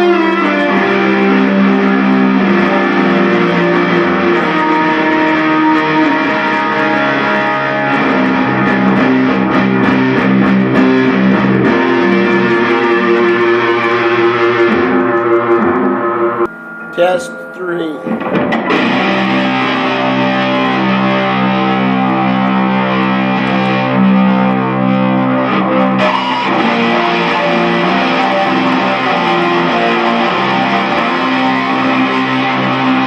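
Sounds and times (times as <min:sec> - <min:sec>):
guitar music with bass: 0:00.0 - 0:33.0.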